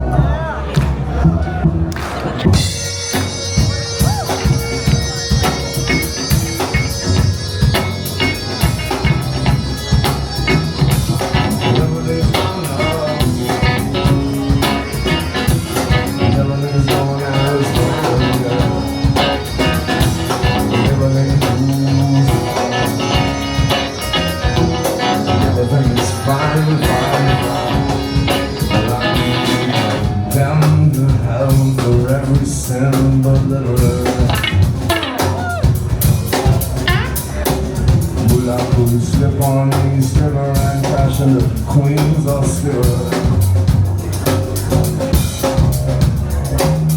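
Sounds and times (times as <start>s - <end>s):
live band playing: 0.2s - 46.9s.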